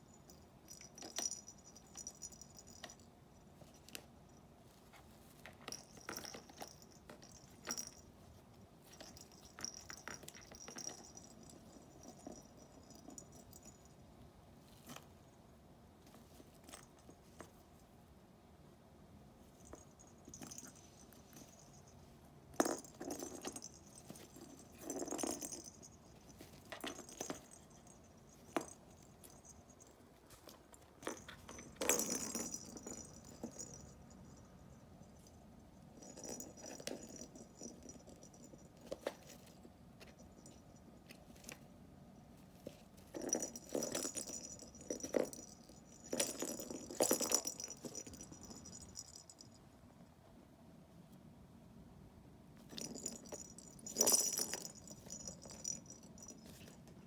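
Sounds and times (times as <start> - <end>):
toys rattling and jingling: 0.0 - 14.0, 19.6 - 41.6, 42.6 - 49.6, 52.7 - 57.0.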